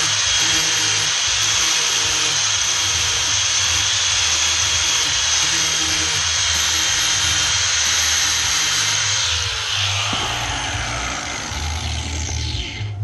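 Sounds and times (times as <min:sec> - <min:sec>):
grinder grinding metal: 0:00.0 - 0:13.0.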